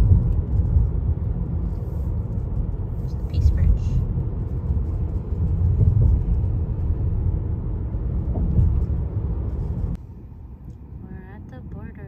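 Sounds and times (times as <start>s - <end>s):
car rumble with road noise: 0.0s - 12.0s.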